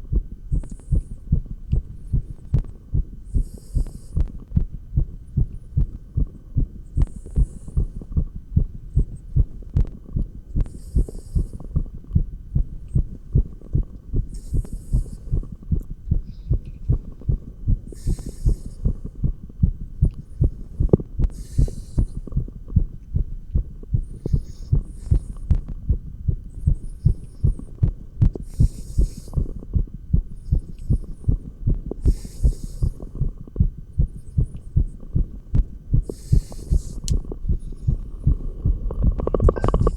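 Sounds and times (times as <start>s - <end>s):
fast heartbeat through stethoscope: 0.0s - 39.9s.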